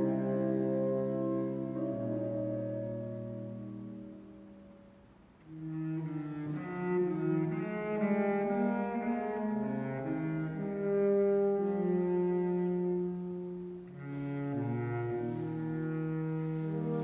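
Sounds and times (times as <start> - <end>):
saxophone ensemble playing chords: 0.0 - 4.8, 5.4 - 17.0.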